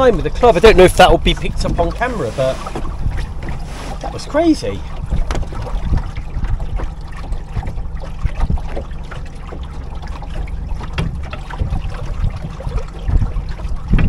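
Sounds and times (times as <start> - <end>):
water splashing against boat hull: 0.0 - 14.0
wind rumbling on microphone: 0.0 - 14.0.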